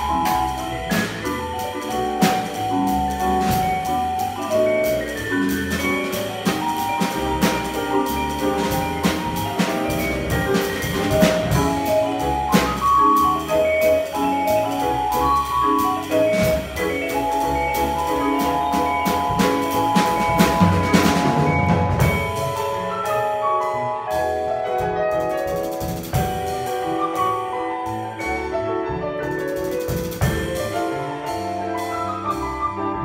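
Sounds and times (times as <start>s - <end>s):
vibraphone ringing notes: 0.0s - 28.0s
drum kit with cymbals: 0.0s - 32.8s
upright double bass: 0.0s - 33.0s.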